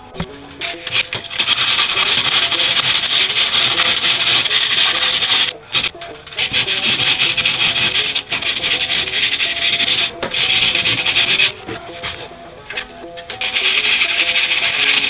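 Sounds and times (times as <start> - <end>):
sandpaper rubbing on metal: 0.6 - 15.0.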